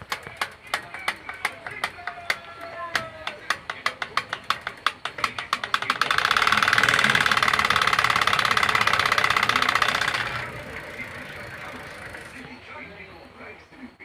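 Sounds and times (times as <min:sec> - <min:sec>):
bicycle spokes flicking noisemaker: 0:00.0 - 0:12.8.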